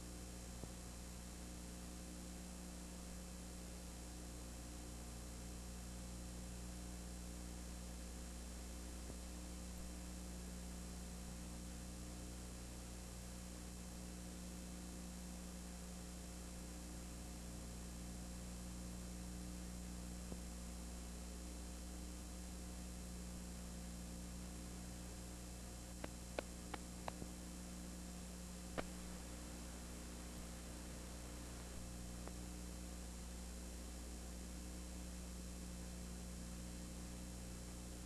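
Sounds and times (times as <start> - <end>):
mains hum: 0.0 - 38.0
tape hiss: 0.0 - 38.0.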